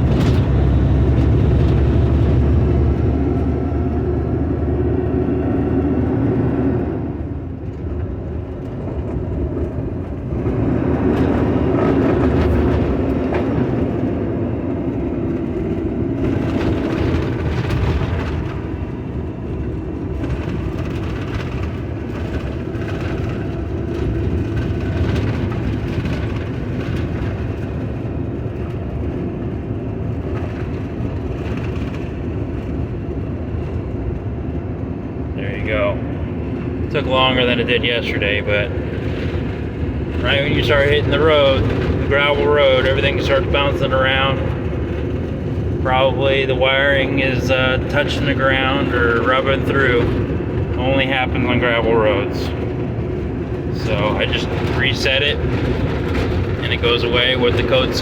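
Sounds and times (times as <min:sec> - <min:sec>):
truck diesel engine running: 0:00.0 - 0:58.0
knocks and rattles from bumps: 0:07.7 - 0:35.0, 0:36.0 - 0:46.2, 0:46.8 - 0:58.0.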